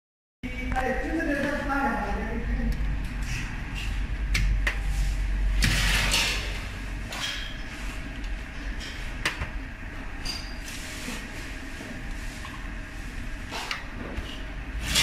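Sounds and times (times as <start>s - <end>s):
oven hum: 0.4s - 15.0s.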